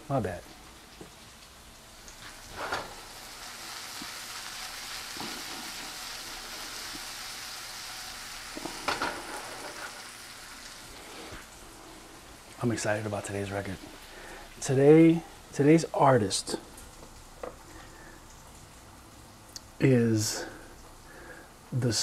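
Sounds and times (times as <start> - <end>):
food sizzling in frying pan: 0.4 - 21.4.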